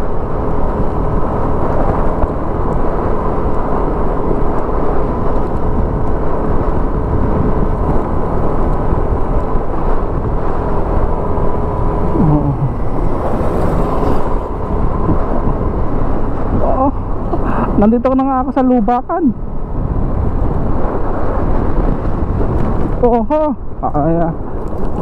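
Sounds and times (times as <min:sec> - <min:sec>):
scooter engine drone: 0:00.0 - 0:25.0
tyre road rumble: 0:00.0 - 0:25.0.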